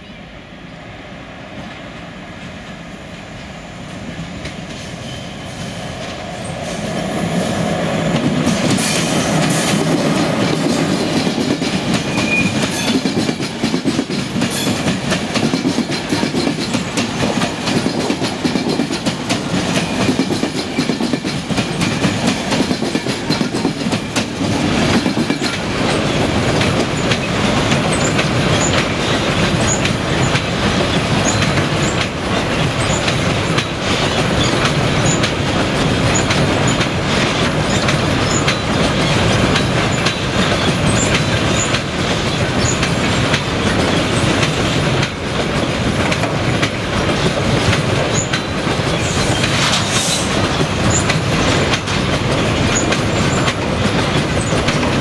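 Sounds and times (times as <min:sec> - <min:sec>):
train rushing rumble: 0:00.0 - 0:55.0
train wheels clicking over rail joints: 0:06.0 - 0:55.0.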